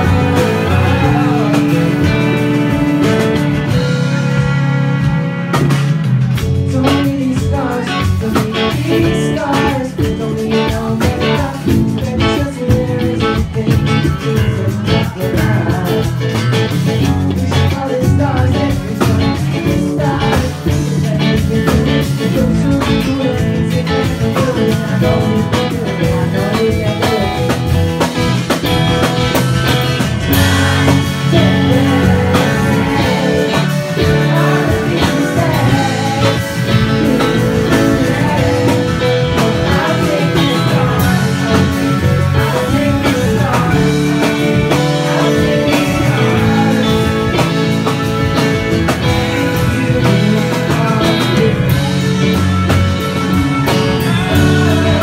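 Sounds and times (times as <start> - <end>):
man singing: 0.0 - 4.4, 6.4 - 55.0
electric guitar rock music: 0.0 - 55.0.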